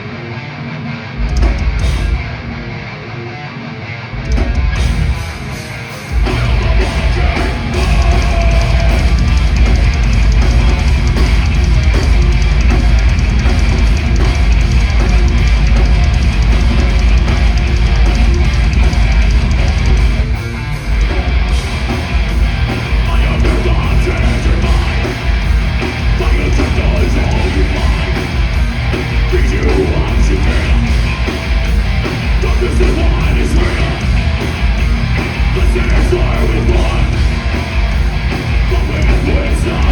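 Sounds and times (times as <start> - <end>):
bass guitar: 0.0 - 39.9
distorted electric guitars: 0.0 - 39.9
fast driving drumming: 1.2 - 2.4, 4.3 - 39.9.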